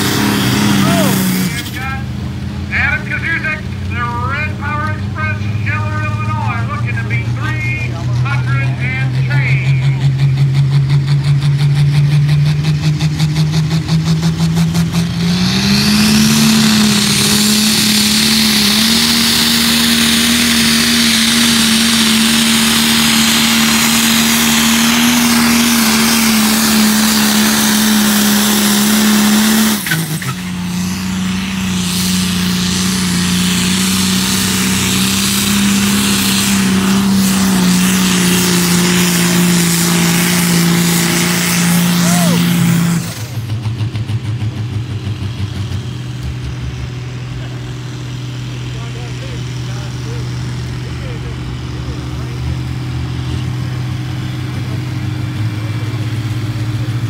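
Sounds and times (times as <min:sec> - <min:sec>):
tractor engine running hard: 0:00.0 - 0:57.0.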